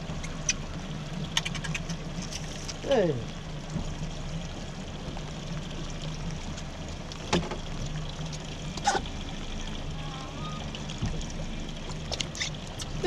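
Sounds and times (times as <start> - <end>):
outboard motor idling: 0.0 - 13.0
heavy rain on a boat: 2.0 - 13.0.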